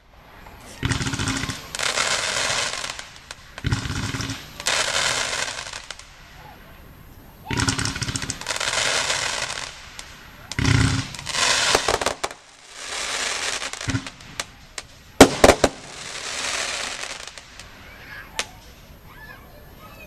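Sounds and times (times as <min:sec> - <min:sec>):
sharp firework cracks: 0:00.0 - 0:18.9
firework bursts hissing: 0:00.0 - 0:20.0
fireworks bangs: 0:00.0 - 0:20.0.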